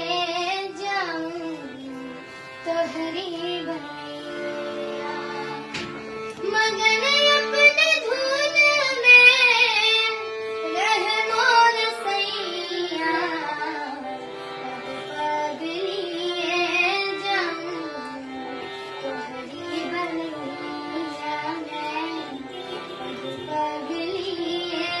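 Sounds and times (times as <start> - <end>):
girl singing: 0.0 - 5.7, 6.4 - 18.2, 19.0 - 25.0.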